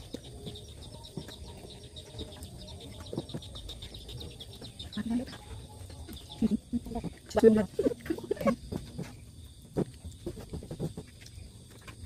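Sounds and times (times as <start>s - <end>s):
chicks peeping: 0.0s - 11.9s.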